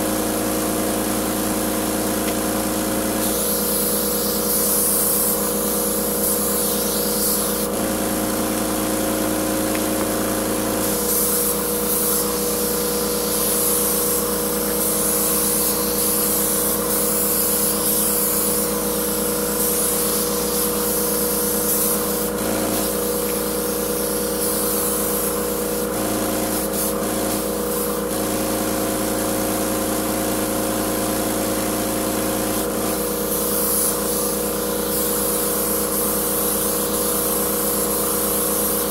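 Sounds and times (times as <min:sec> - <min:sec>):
paint sprayer motor hum: 0:00.0 - 0:38.9
paint spraying hiss: 0:02.1 - 0:07.9, 0:08.6 - 0:28.4, 0:32.6 - 0:38.9.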